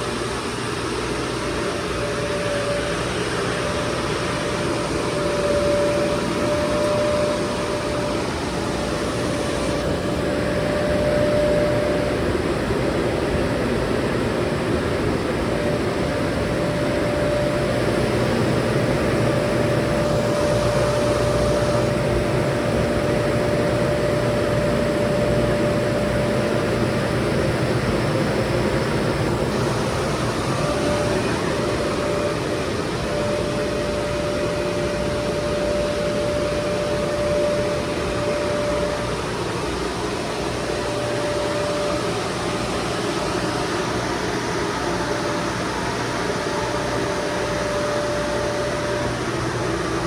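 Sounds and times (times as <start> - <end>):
air-conditioning unit running: 0.0 - 50.0.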